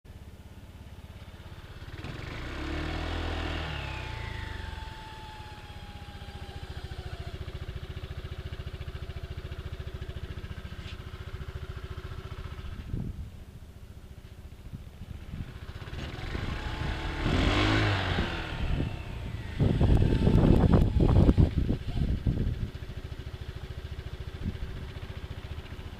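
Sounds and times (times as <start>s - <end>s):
engine with whistling variator: 0.9s - 13.2s, 15.0s - 25.9s.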